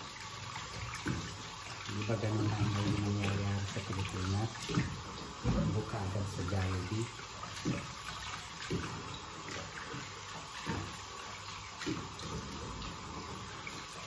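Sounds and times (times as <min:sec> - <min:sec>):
tap running into a sink: 0:00.0 - 0:14.0.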